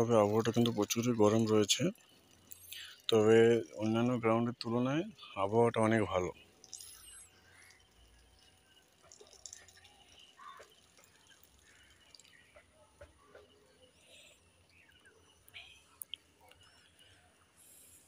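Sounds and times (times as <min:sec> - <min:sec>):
faint chirps: 0:00.0 - 0:18.0.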